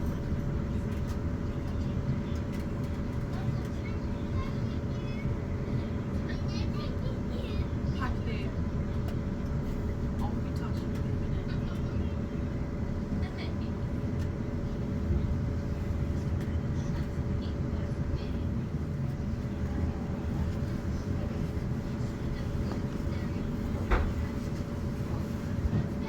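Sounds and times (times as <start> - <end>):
constant hum: 0.0 - 26.0
train wheels rumbling on rails: 0.0 - 26.0.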